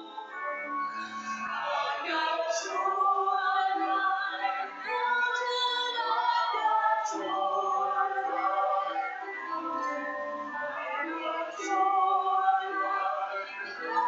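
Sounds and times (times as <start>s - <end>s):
woman singing a hymn: 1.6s - 14.0s.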